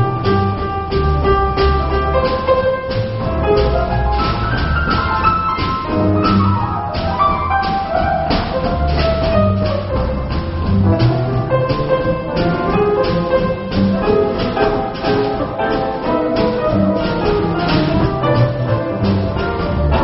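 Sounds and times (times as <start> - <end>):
drum kit beat: 0.0 - 20.0
piano melody: 0.0 - 20.0
upright bass walking notes: 0.0 - 20.0.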